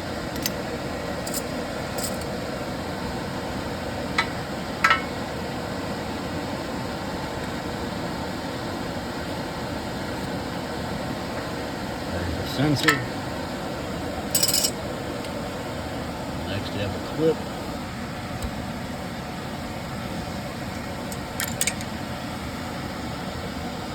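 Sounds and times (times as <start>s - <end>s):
fan-like hiss: 0.0s - 23.9s.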